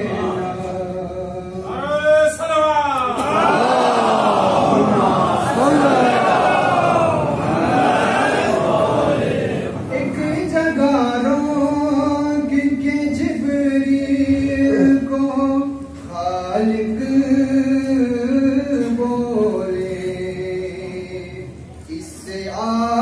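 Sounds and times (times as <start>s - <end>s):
man chanting unaccompanied: 0.0s - 23.0s.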